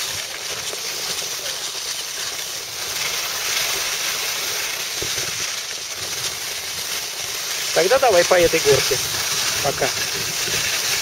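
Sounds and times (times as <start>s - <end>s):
skis sliding over snow: 0.0s - 11.0s.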